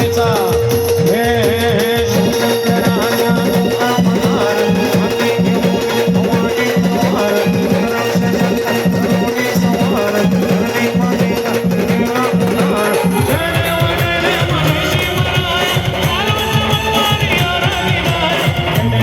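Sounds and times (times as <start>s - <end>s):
drums beating a steady rhythm: 0.0s - 19.0s
wavering melody: 0.0s - 19.0s.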